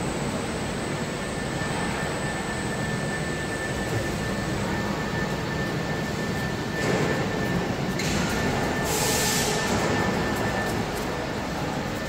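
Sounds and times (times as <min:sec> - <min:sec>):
machine whir with high whine: 0:00.0 - 0:12.0.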